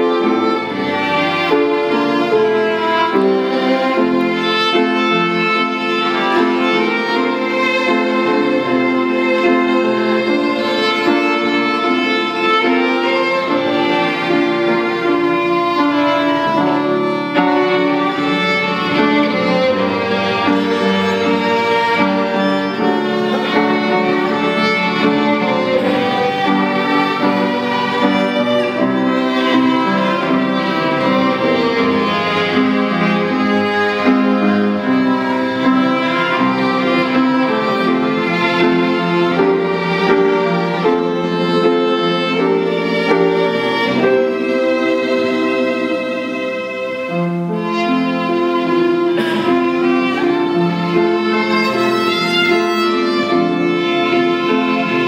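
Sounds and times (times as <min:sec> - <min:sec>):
two violins playing: 0:00.0 - 0:55.0.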